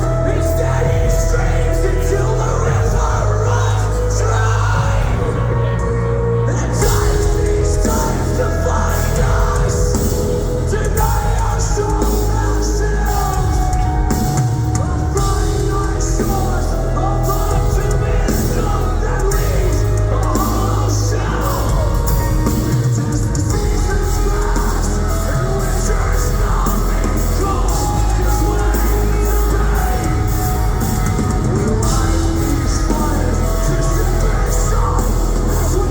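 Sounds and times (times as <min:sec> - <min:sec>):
distorted guitars: 0:00.0 - 0:35.9
heavy bass: 0:00.0 - 0:35.9
pounding drums: 0:06.8 - 0:35.9.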